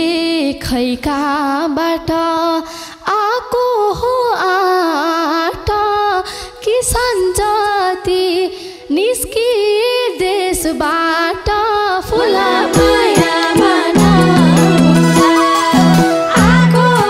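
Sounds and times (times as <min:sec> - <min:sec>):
woman singing folk song: 0:00.0 - 0:17.0.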